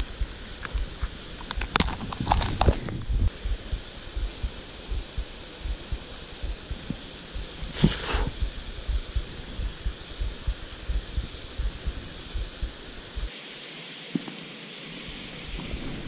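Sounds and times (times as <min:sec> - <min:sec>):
low thumps on microphone: 0:00.0 - 0:13.3
river flowing: 0:00.0 - 0:16.0.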